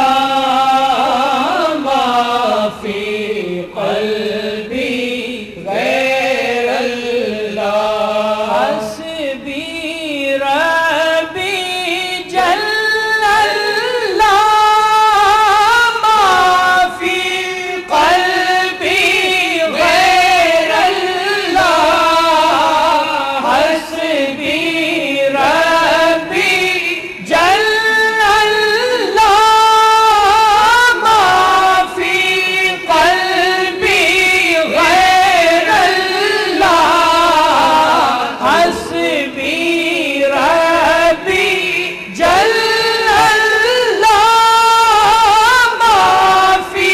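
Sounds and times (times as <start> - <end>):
person singing devotional song: 0.0 - 46.9.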